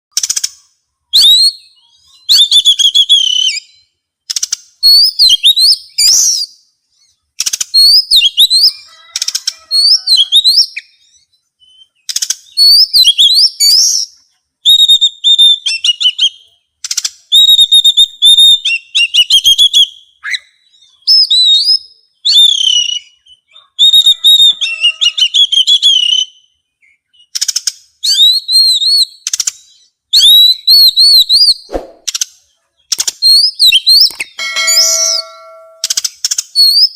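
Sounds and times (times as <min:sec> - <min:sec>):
songbird whistling and clicking: 0:00.1 - 0:34.4, 0:35.8 - 0:36.9.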